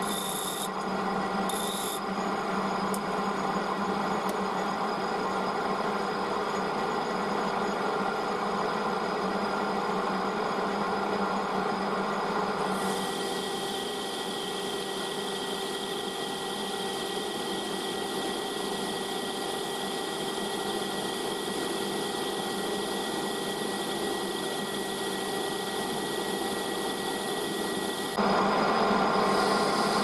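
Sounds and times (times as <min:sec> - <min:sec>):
metal lathe humming and whining: 0:00.0 - 0:07.5, 0:08.8 - 0:30.0.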